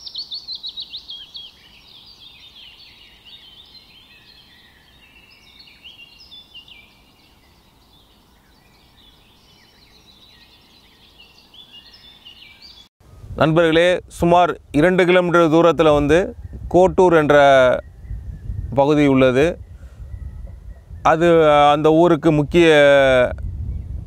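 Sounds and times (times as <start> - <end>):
small birds chirping: 0.0 - 12.9, 14.8 - 24.0.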